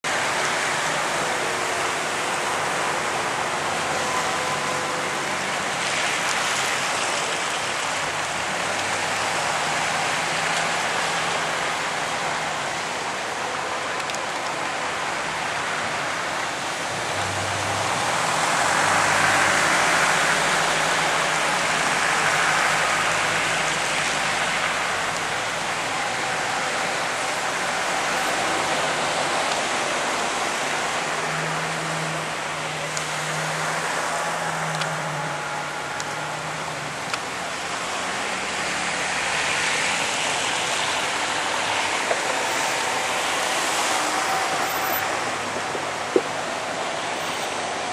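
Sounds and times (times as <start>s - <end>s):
tyres hissing on wet road: 0.1s - 47.9s.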